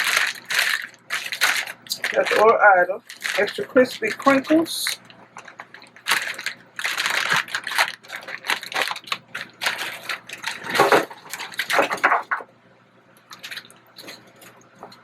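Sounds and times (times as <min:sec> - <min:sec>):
plastic bag crinkling: 0:00.0 - 0:12.4, 0:13.3 - 0:15.0.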